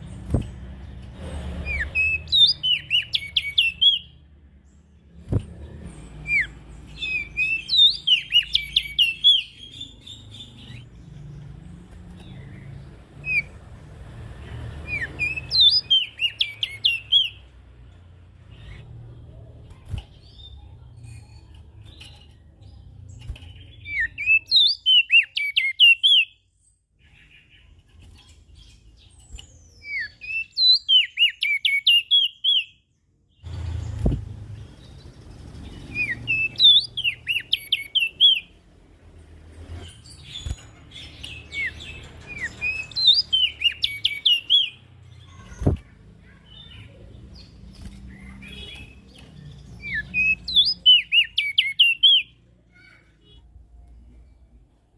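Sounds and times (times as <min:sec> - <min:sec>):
songbird chirping: 0:00.0 - 0:54.9.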